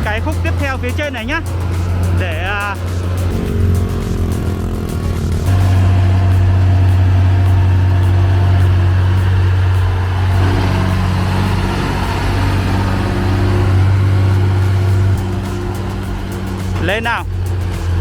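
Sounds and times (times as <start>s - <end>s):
heavy machine engine humming: 0.0s - 18.0s.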